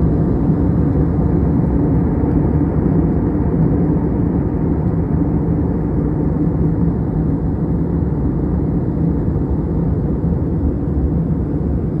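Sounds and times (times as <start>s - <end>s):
airliner engines roaring: 0.0s - 12.0s
faint constant hum: 0.0s - 12.0s.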